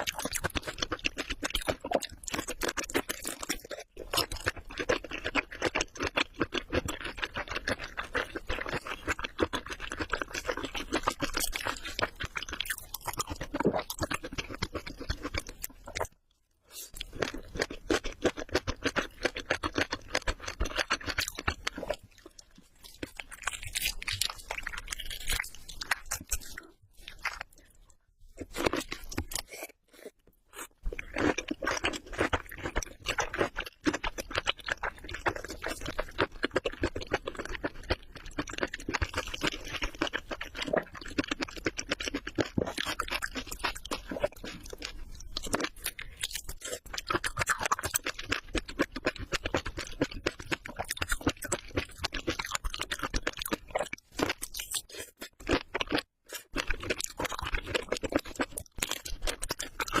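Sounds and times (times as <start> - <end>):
crunchy food being chewed: 0.0 - 60.0.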